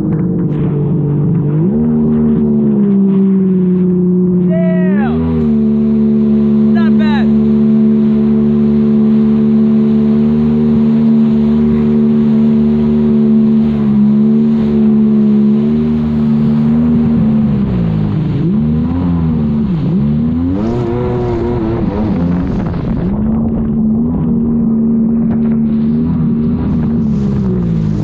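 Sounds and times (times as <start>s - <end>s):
jet ski engine running: 0.0s - 28.0s.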